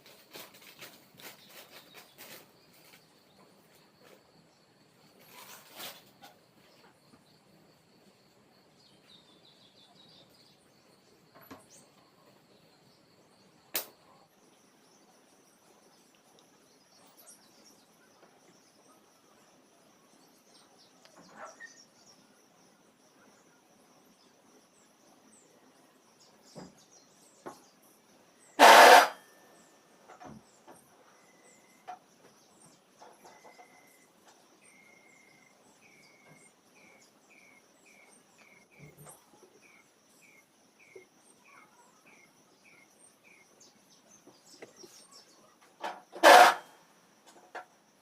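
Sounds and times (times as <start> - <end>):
faint high steady whine: 0.0 - 45.6.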